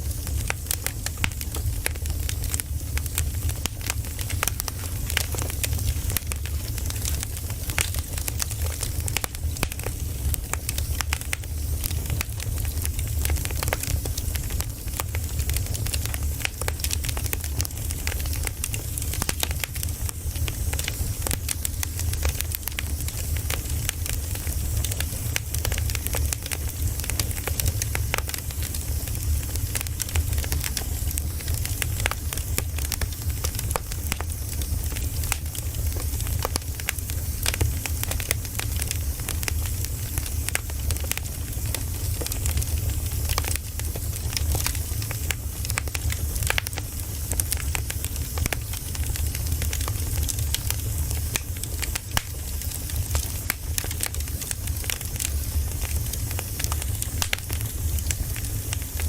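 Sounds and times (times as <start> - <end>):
campfire wood crackling: 0.0 - 59.0
low rumble of flames: 0.0 - 59.0.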